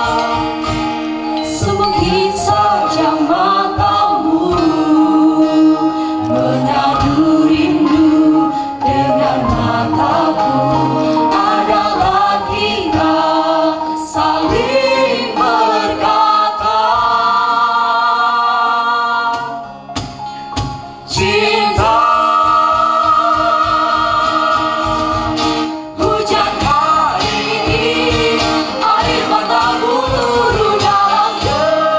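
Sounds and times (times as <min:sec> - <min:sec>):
vocal group singing in harmony: 0:00.0 - 0:31.9.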